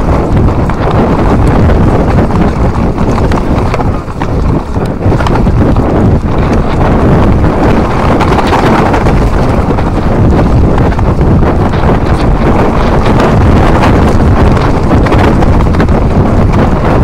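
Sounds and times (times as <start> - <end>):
bike rattling and knocking: 0.0 - 17.0
wind rushing over microphone: 0.0 - 17.0.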